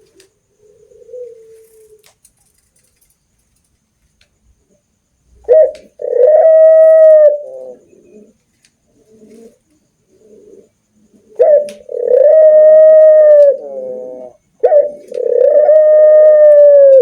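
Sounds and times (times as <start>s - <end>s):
dove cooing: 0.0s - 2.9s, 4.7s - 17.0s.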